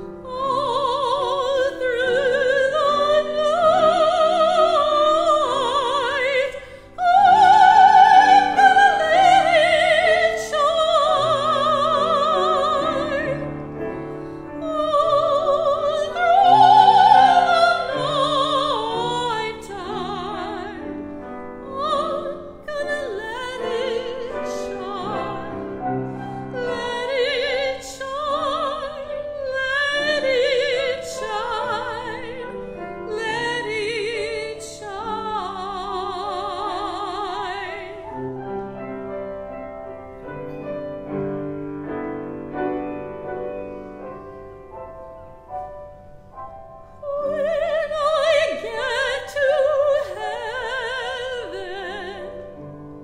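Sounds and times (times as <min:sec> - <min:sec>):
soprano singing with vibrato: 0:00.0 - 0:38.8, 0:46.9 - 0:53.0
piano accompaniment: 0:00.0 - 0:53.0.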